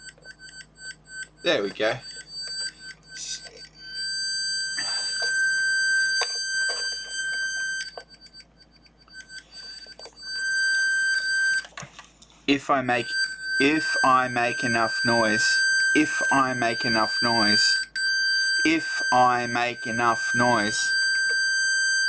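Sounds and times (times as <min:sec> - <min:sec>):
shrill buzzer tone: 0:00.9 - 0:08.4, 0:09.1 - 0:11.7, 0:12.7 - 0:22.0.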